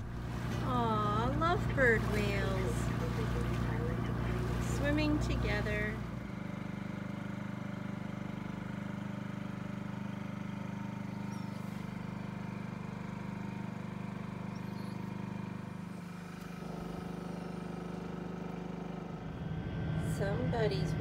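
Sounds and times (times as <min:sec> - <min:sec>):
boat diesel engine running: 0:00.0 - 0:21.0.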